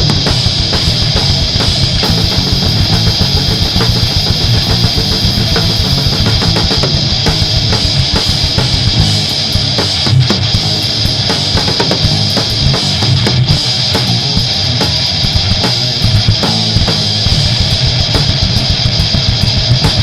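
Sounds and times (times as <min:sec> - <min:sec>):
distorted guitar riffing: 0:00.0 - 0:20.0
fast drum kit: 0:00.0 - 0:20.0.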